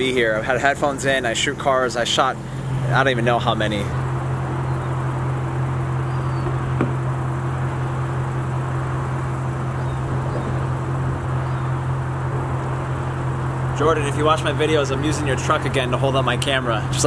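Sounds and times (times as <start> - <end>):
faint outdoor background noise: 0.0 - 17.0
low mechanical hum: 0.0 - 17.0.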